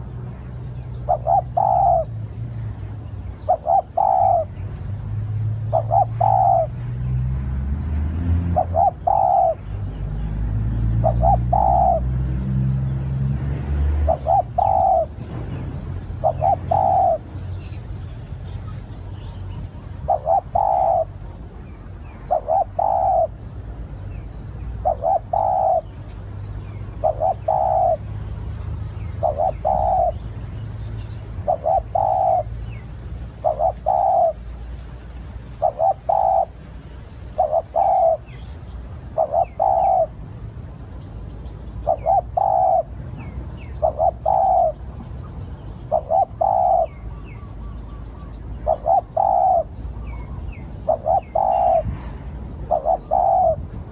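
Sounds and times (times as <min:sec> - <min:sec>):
small birds chirping: 0:00.0 - 0:53.9
dove cooing: 0:00.8 - 0:04.6, 0:05.5 - 0:06.9, 0:08.4 - 0:09.7, 0:10.8 - 0:12.6, 0:13.6 - 0:17.9, 0:19.3 - 0:23.5, 0:24.3 - 0:40.3, 0:41.8 - 0:47.6, 0:48.5 - 0:53.9.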